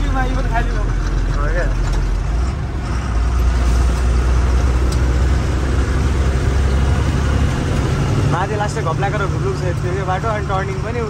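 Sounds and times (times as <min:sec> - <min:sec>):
truck engine driving: 0:00.0 - 0:11.0.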